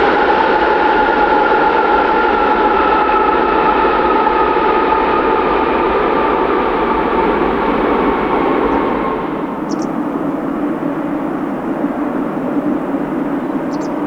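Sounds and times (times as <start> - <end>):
jet engines whining down: 0.0 - 14.0.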